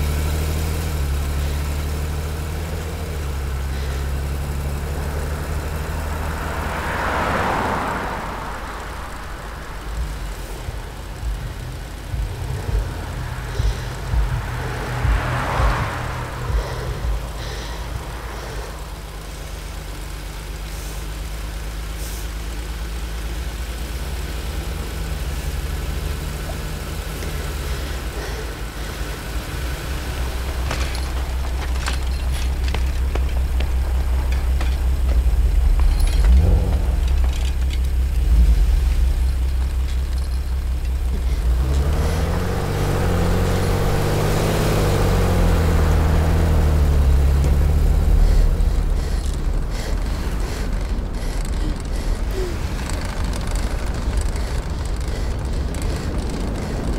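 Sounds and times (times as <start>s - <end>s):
car engine rumbling: 0.0s - 56.9s.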